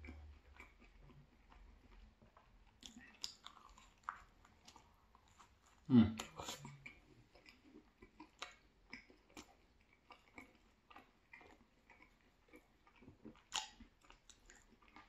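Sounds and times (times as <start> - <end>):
quiet chewing with crunches: 0.0 - 15.0.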